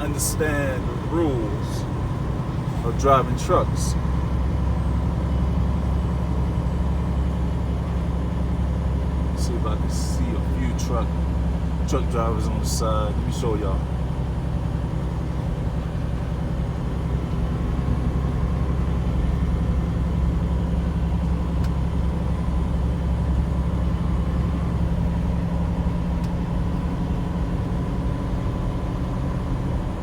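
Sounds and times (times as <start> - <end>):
truck engine drone in cab: 0.0 - 30.0.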